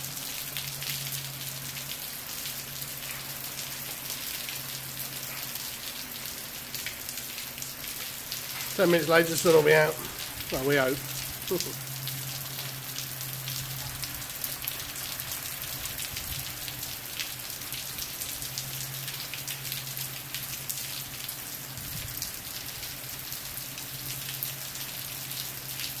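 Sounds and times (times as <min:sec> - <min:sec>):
heavy rain on grass and concrete: 0:00.0 - 0:26.0.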